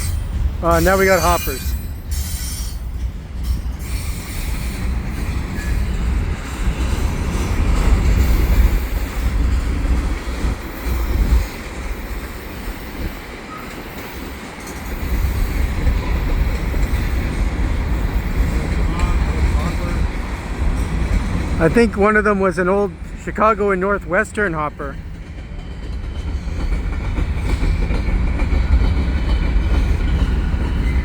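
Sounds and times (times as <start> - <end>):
freight train rolling past: 0.0 - 31.0.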